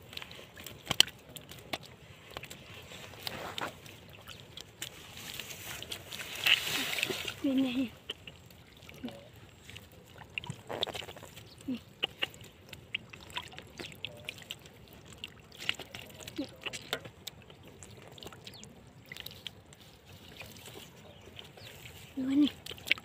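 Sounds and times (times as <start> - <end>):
water splashing and dripping: 0.0 - 23.0.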